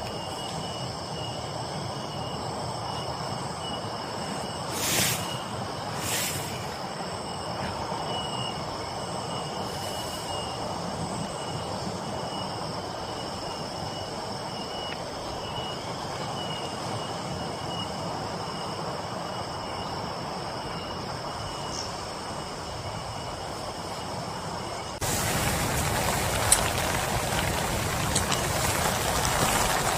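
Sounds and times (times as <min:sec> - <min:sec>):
insects trilling: 0:00.0 - 0:29.9
rain hiss: 0:00.0 - 0:29.9.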